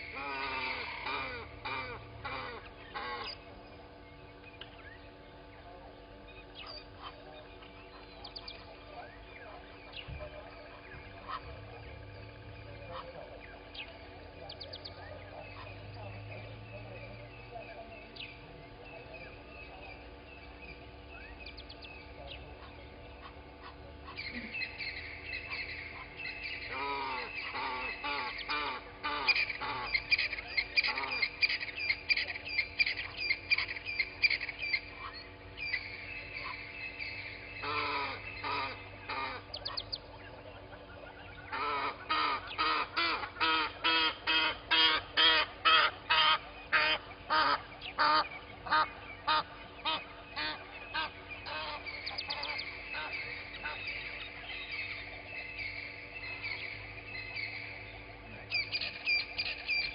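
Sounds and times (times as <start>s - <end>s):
honking bird calls: 0.0s - 59.9s
twittering birdsong: 0.0s - 59.9s.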